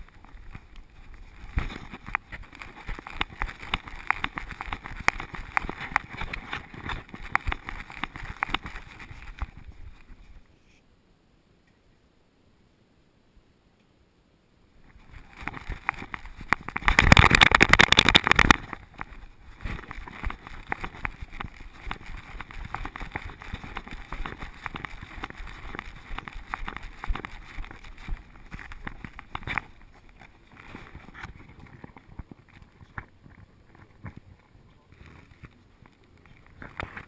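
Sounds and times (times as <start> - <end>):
small clicks and knocks: 0.0 - 10.2, 14.9 - 37.0
camera rubbing against fur: 0.0 - 10.8, 14.8 - 37.0.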